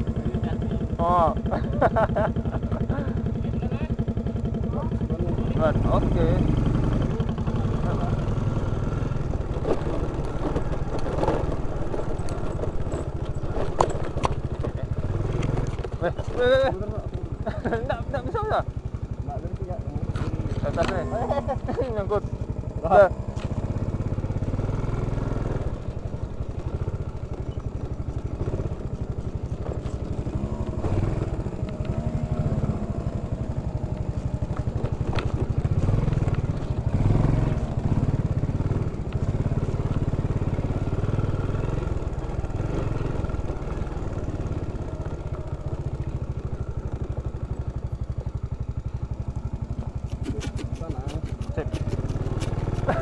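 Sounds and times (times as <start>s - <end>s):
scooter engine running: 0.0s - 53.0s.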